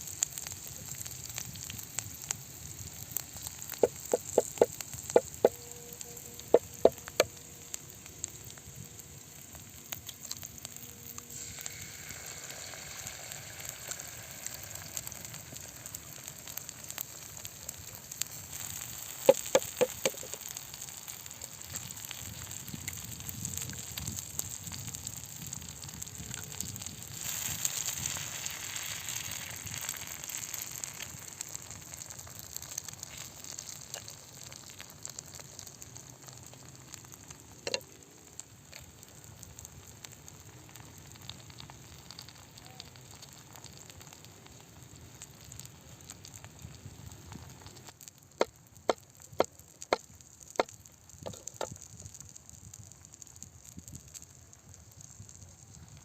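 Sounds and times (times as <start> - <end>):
omelette sizzling in a pan: 0.0 - 56.0.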